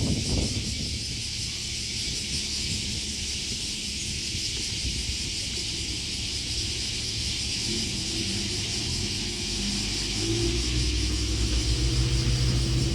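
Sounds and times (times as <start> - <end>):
low unsteady rumble: 0.0 - 12.9.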